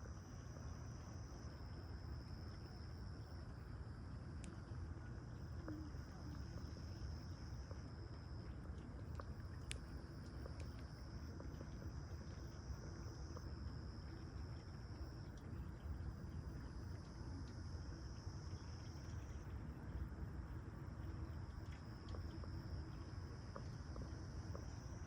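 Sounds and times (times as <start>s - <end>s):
constant low rumble: 0.0s - 25.0s
insects chirring: 0.0s - 25.0s.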